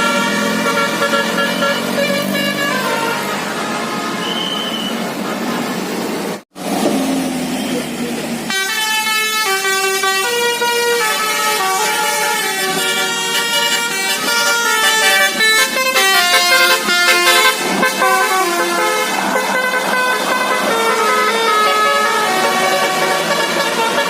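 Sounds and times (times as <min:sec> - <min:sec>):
musical bus horn playing tune: 0:00.0 - 0:05.0, 0:08.5 - 0:24.0.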